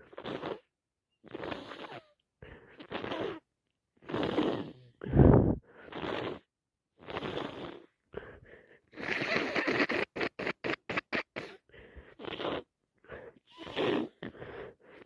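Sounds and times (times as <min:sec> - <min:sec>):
person blowing nose: 0:00.0 - 0:02.1, 0:02.7 - 0:03.4, 0:04.0 - 0:08.0, 0:08.9 - 0:12.7, 0:13.5 - 0:15.0.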